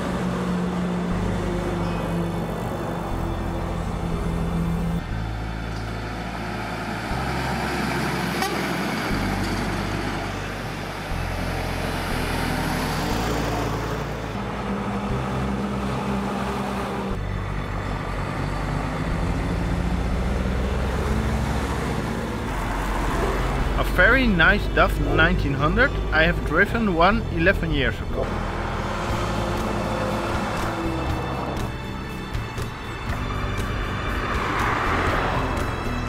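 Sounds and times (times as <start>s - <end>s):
background music with bass: 0.0s - 36.0s
trucks and cars driving past: 0.0s - 36.0s.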